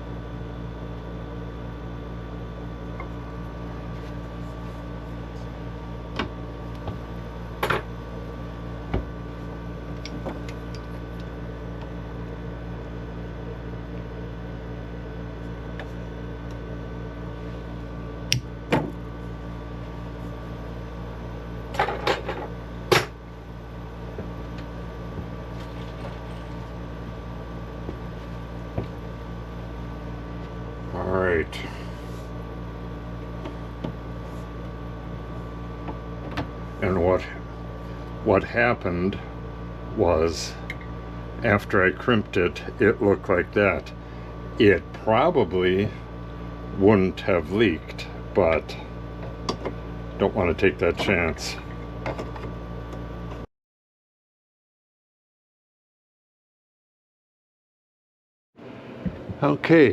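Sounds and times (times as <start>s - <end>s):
steady multi-tone hum: 0.0s - 53.5s, 58.6s - 59.9s.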